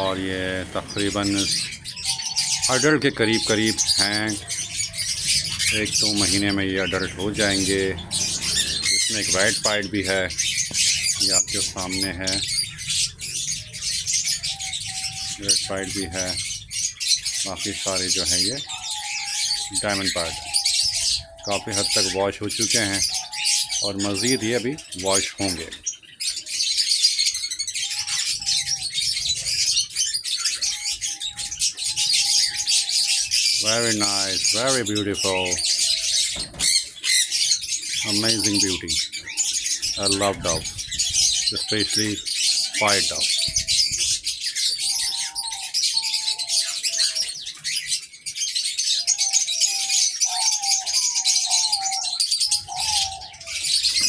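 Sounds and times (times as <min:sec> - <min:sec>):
birds chirping and twittering: 0:00.0 - 0:54.0
doves cooing: 0:00.0 - 0:54.0.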